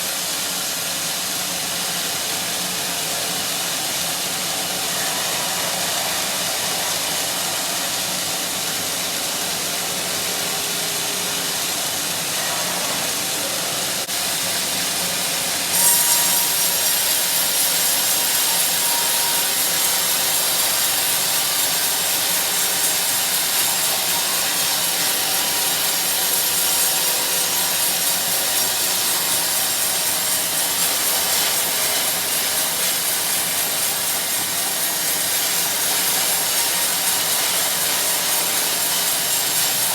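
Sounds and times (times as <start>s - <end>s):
sawmill saw cutting log: 0.1s - 39.9s.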